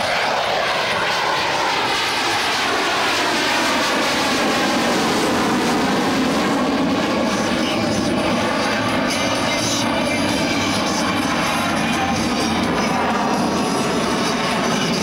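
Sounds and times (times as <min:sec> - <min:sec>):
jet engine flying past: 0:00.0 - 0:15.0.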